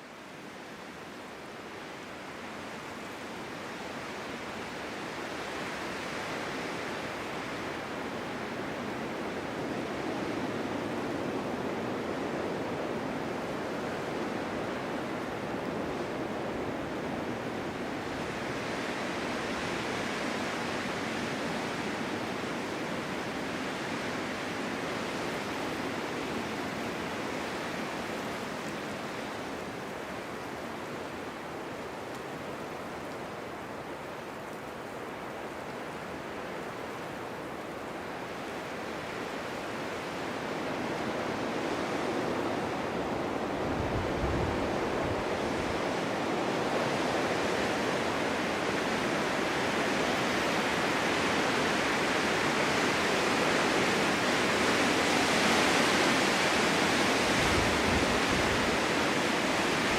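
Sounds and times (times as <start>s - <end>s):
wind blowing in gusts: 0.0s - 59.9s.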